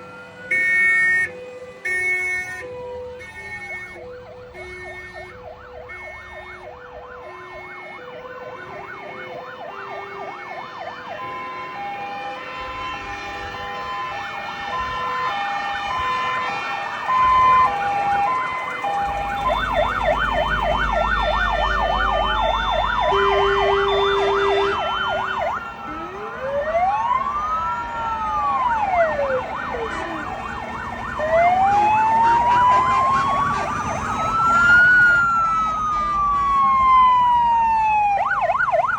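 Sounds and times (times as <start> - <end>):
hi-lo sirens: 0.0 - 38.9
wailing sirens: 0.0 - 38.9
yelping sirens: 0.0 - 38.9.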